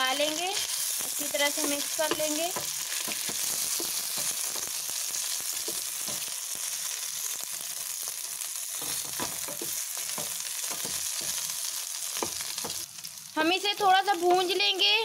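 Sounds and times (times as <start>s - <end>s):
potatoes sizzling in hot oil: 0.0s - 15.0s.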